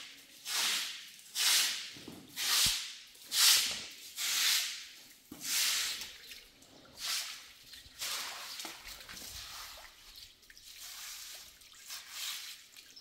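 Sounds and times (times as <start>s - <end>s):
broom sweeping wet concrete: 0.0s - 13.0s.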